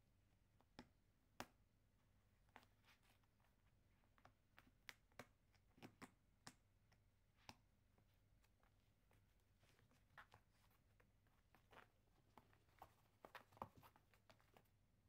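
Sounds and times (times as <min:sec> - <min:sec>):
puppy chewing foam mat: 0:02.3 - 0:14.7.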